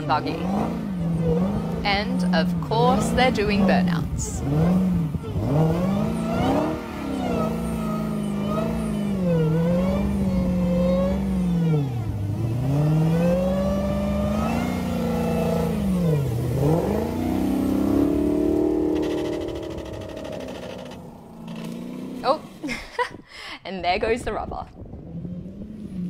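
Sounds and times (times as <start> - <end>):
car engine revving high: 0.0 - 22.7.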